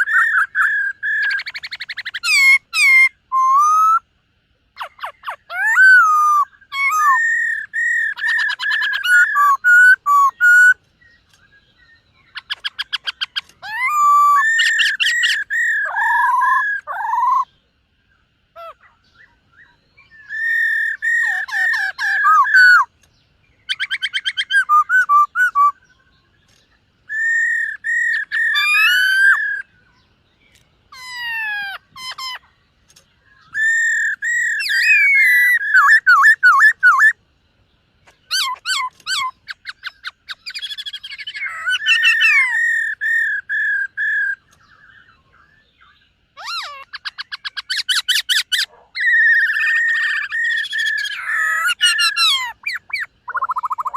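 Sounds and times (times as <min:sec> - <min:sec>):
bird singing whistles and trills: 0:00.0 - 0:04.1, 0:04.7 - 0:37.2, 0:38.0 - 0:53.9.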